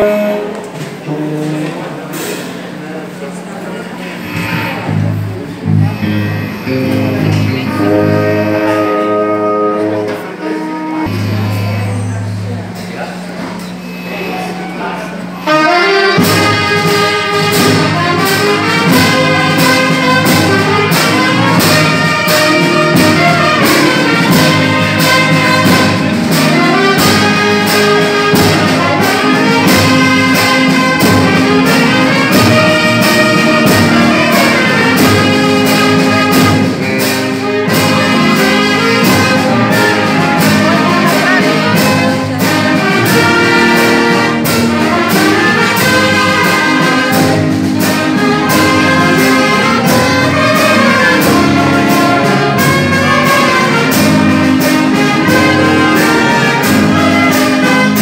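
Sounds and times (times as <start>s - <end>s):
wind band playing: 0.0s - 58.0s.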